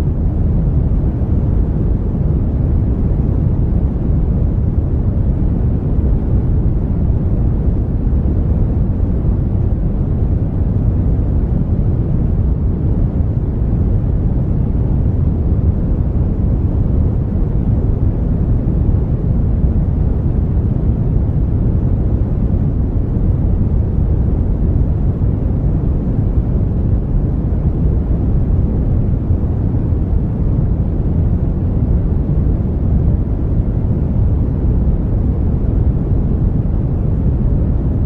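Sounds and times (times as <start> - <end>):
brown noise rumbling hiss: 0.0 - 38.0.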